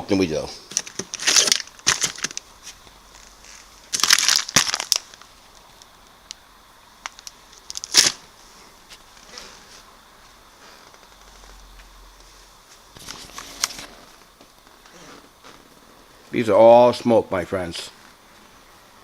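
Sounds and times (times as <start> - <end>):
crinkling and rustling: 0.6 - 6.4, 7.0 - 16.5.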